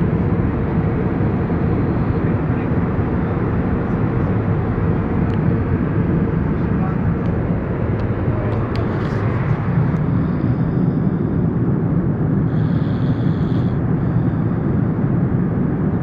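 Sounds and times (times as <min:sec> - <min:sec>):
airliner cabin engine drone: 0:00.0 - 0:16.0.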